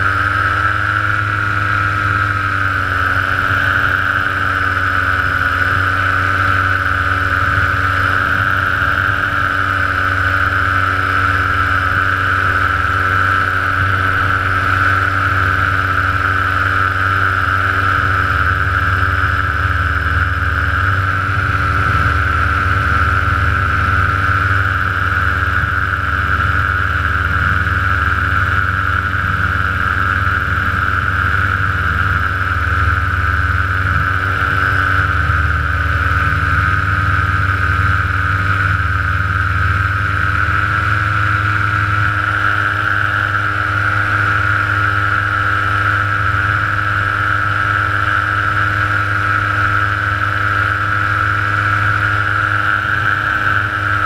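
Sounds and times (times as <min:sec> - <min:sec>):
small aircraft engine droning: 0:00.0 - 0:54.0.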